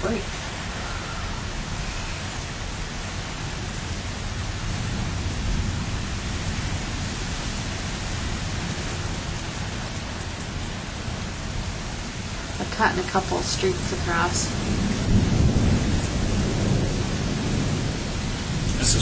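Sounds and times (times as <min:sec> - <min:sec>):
distant thunder rumbling: 0:00.0 - 0:19.0
rain: 0:00.0 - 0:19.0
wind: 0:00.0 - 0:19.0.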